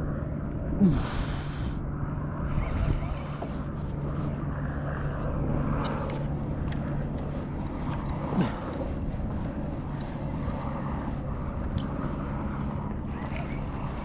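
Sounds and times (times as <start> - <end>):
low motor hum: 0.0 - 14.0
wind: 0.0 - 14.0
water noise: 0.8 - 14.0.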